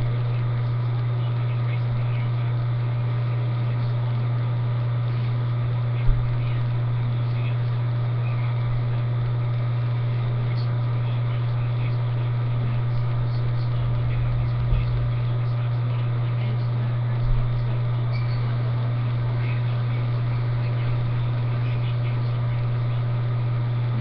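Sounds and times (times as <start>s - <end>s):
loud low hum: 0.0s - 24.0s.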